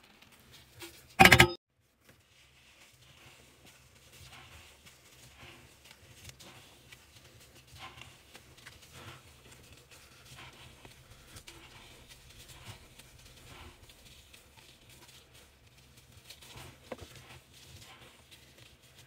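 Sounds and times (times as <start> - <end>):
powder crunching and glove rustling: 1.8 - 19.0.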